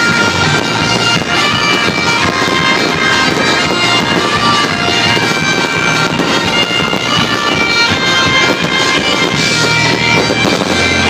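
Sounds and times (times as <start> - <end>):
fireworks crackling: 0.0 - 11.0
loud music with sustained tones: 0.0 - 11.0.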